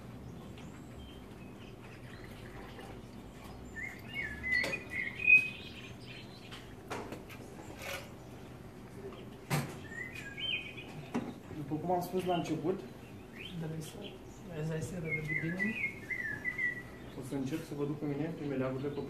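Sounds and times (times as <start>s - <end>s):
birds chirping: 0.0s - 19.0s
low steady hum: 0.0s - 19.0s.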